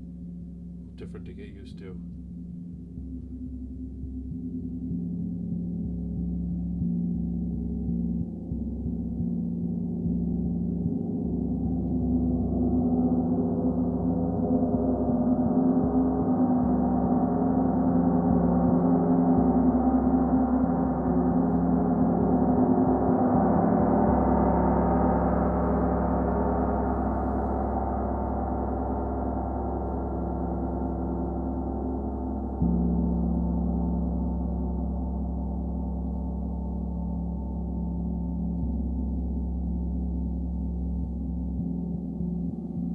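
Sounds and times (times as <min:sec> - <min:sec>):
deep steady hum: 0:00.0 - 0:42.9.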